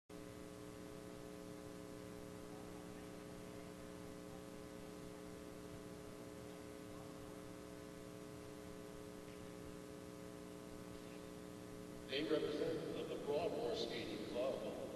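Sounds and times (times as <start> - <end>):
steady multi-tone hum: 0.1 - 14.9.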